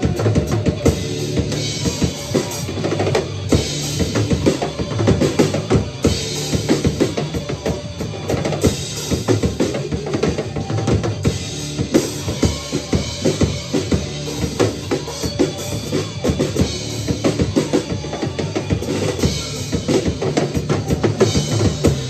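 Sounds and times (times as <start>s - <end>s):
drum kit played fast: 0.0s - 22.0s
recorded rock song: 0.0s - 22.0s.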